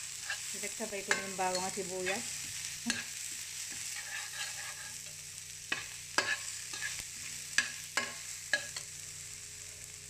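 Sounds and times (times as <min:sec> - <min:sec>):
garlic and onion sizzling in oil: 0:00.0 - 0:10.0.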